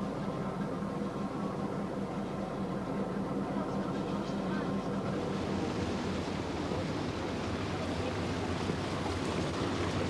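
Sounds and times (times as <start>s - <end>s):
water wash around hull: 0.0s - 10.0s.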